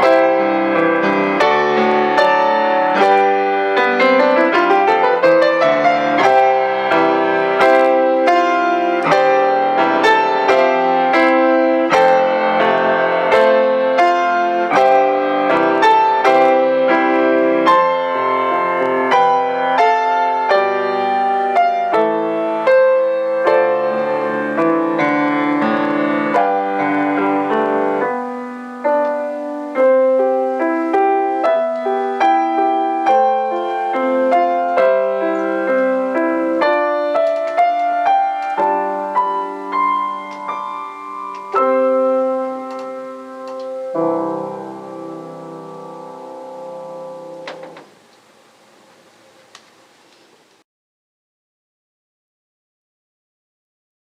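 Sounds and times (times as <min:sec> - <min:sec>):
solo piano: 0:00.0 - 0:50.6.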